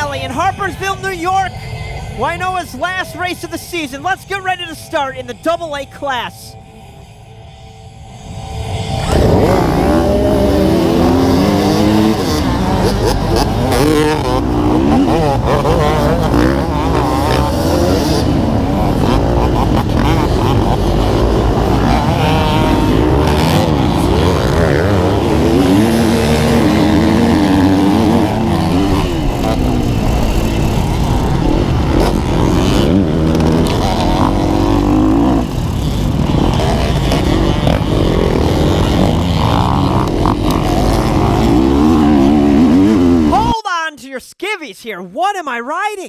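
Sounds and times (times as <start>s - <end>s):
dirt bike engines revving: 0.0s - 6.4s, 8.2s - 43.6s.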